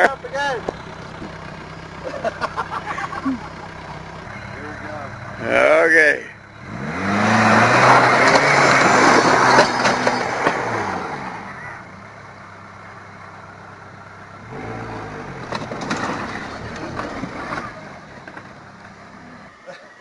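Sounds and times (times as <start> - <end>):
diesel engine revving: 0.0 - 19.8.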